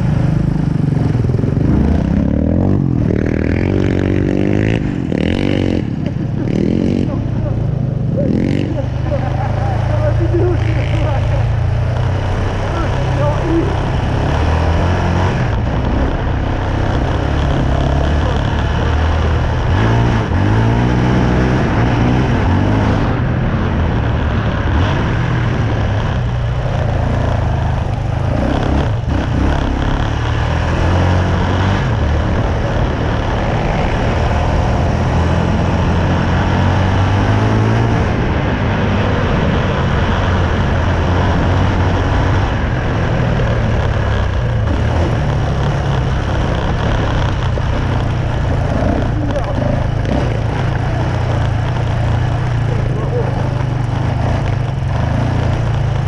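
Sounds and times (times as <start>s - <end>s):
quad engine revving: 0.0s - 56.0s
steady rushing noise: 0.0s - 56.0s.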